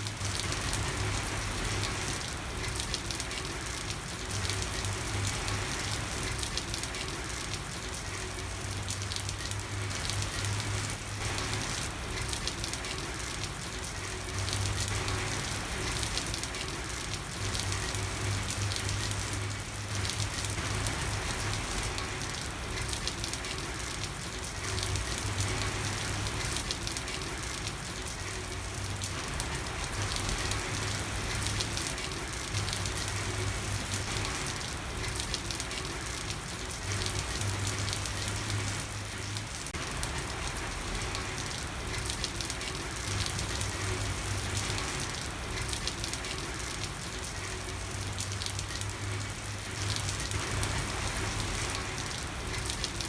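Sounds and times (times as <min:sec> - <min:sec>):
rain falling on a street: 0:00.0 - 0:53.0.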